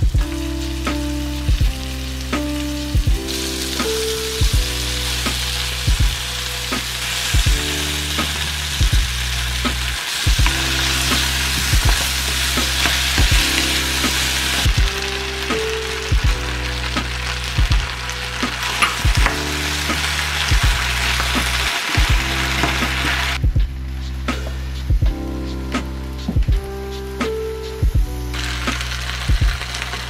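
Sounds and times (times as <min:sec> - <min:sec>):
background music with drum beat: 0:00.0 - 0:30.0
food sizzling in a frying pan: 0:00.2 - 0:23.4, 0:28.3 - 0:30.0.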